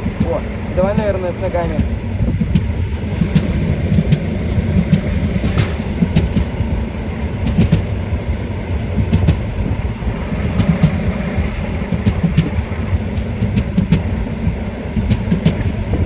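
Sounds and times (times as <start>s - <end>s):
train rumbling by: 0.0s - 16.0s
wheels clicking over rail joints: 0.0s - 16.0s.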